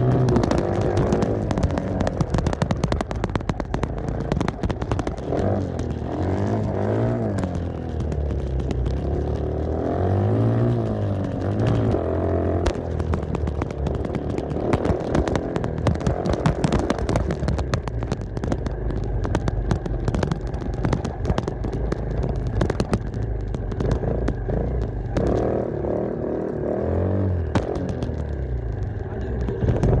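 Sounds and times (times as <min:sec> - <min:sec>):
sharp clicks and knocks: 0:00.0 - 0:26.6, 0:27.4 - 0:30.0.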